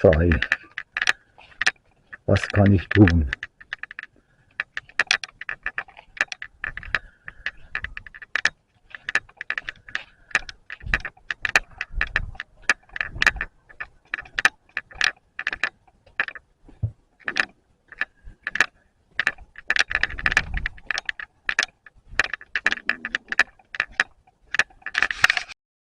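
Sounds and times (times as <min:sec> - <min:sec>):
switch rattling clicks: 0:00.0 - 0:25.5.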